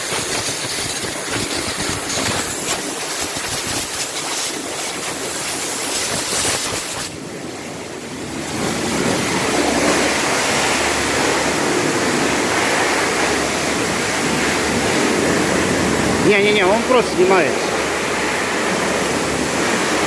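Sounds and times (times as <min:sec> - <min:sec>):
high-pressure water spray hissing: 0:00.0 - 0:07.2, 0:08.6 - 0:20.0.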